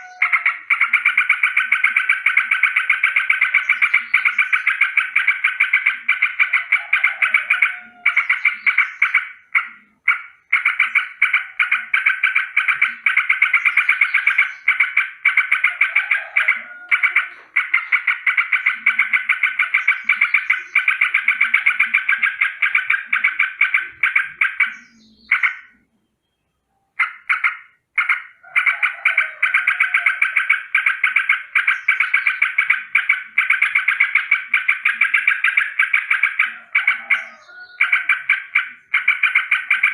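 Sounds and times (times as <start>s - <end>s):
bird rattling alarm call: 0.0s - 25.8s, 27.0s - 39.9s.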